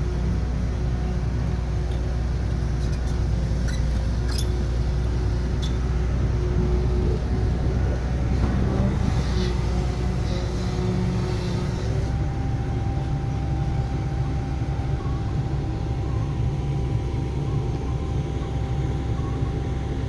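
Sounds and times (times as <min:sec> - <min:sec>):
diesel engine droning: 0:00.0 - 0:20.0
faint engine whine: 0:00.0 - 0:20.0.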